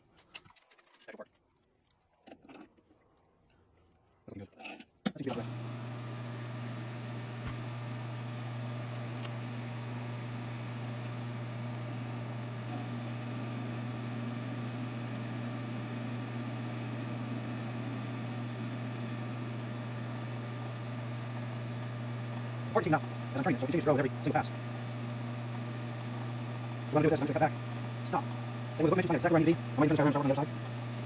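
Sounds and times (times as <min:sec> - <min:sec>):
metal lathe humming: 0:05.3 - 0:31.0.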